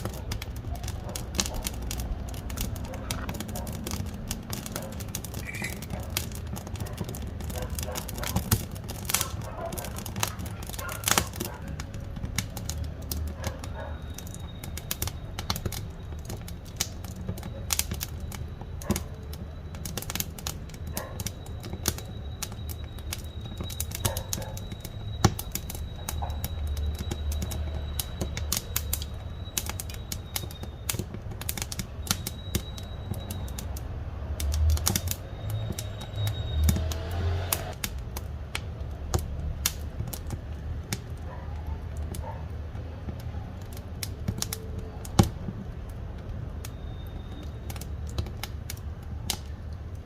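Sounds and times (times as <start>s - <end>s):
firewood crackling and popping: 0.0s - 50.0s.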